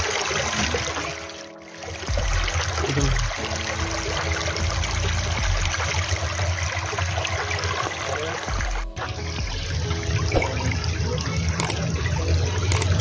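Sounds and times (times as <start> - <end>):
low water rumble: 0.2 - 13.0.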